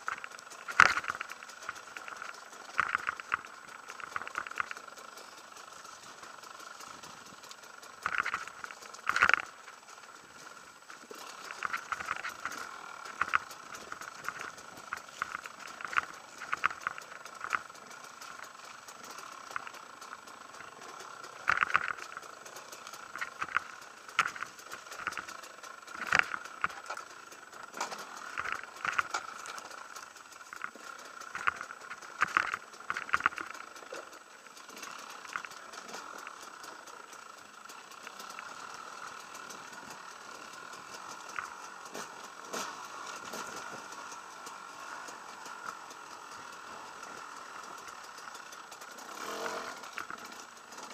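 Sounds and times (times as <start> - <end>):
motorcycle engine droning: 0.0 - 50.9.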